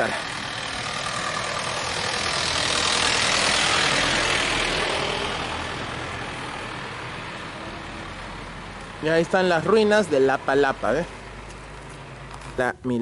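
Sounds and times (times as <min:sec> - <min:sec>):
vehicle passing by: 0:00.0 - 0:12.6
low engine rumble: 0:00.0 - 0:12.9.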